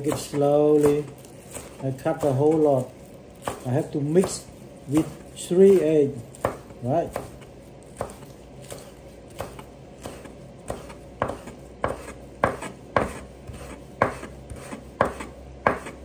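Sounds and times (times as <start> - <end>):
knife chopping on wooden board: 0.0 - 16.0.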